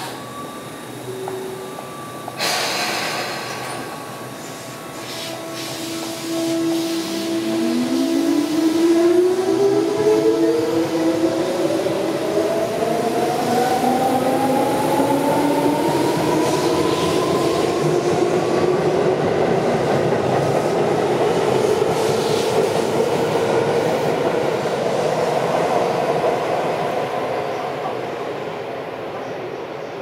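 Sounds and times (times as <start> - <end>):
train wheel and running noise: 0.0 - 30.0.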